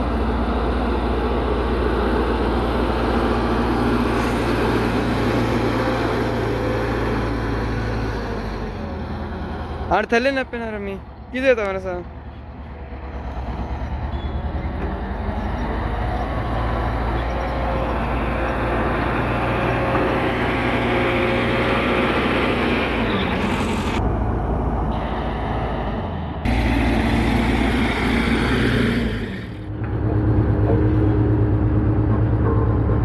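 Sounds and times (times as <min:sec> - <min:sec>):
diesel engine rumbling: 0:00.0 - 0:33.0.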